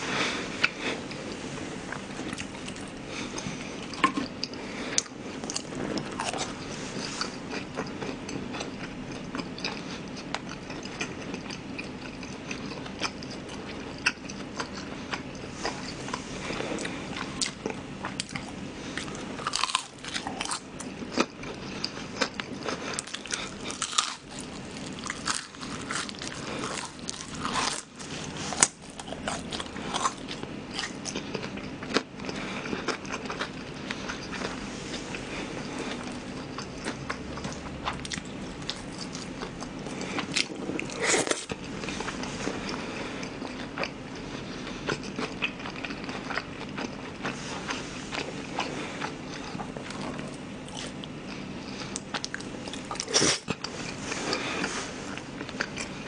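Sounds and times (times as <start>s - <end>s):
chewing crunchy battered food: 0.0s - 56.0s.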